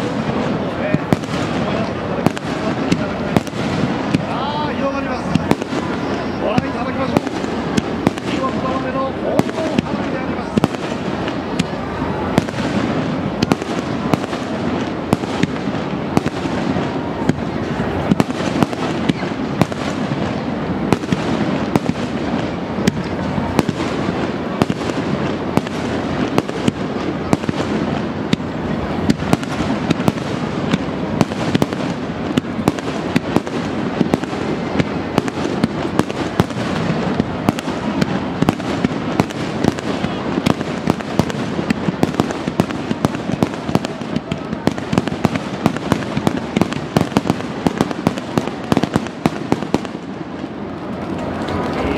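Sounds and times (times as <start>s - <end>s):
fireworks cracking and popping: 0.0s - 51.9s.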